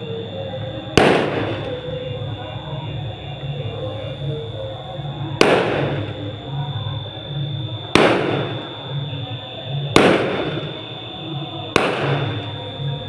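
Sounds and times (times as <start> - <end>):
fireworks bangs with echo: 0.6 - 13.0.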